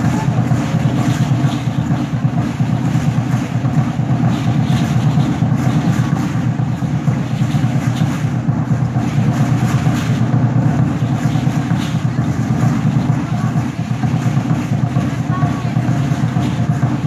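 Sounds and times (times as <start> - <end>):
loud distorted drumming: 0.0 - 17.0.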